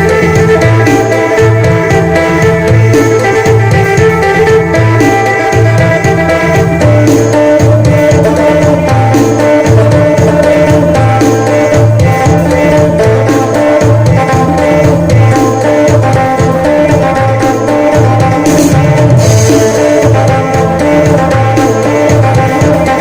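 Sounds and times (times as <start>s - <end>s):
repeating bass line: 0.0s - 23.0s
steady drum beat: 0.0s - 23.0s.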